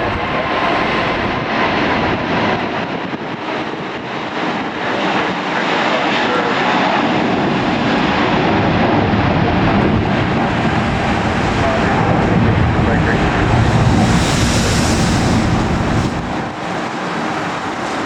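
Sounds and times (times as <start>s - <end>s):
airliner engines rushing: 0.0s - 18.0s
faint high engine whine: 2.9s - 18.0s.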